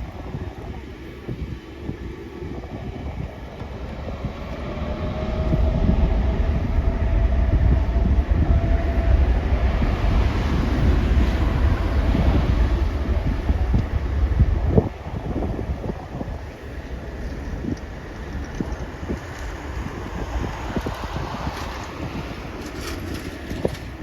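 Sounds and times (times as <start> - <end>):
faint rising whine: 0.0 - 24.0
jet airliner engines roaring: 0.0 - 24.0.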